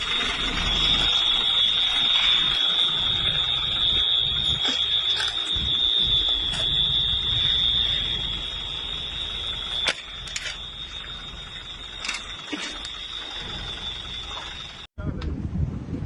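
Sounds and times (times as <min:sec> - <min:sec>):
high-pitched alarm tone: 0:00.0 - 0:14.9
low rumbling noise: 0:00.0 - 0:16.0.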